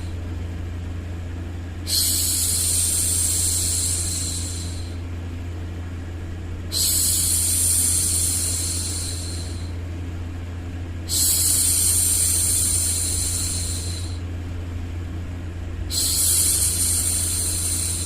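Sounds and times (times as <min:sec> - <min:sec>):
white noise hum: 0:00.0 - 0:18.0.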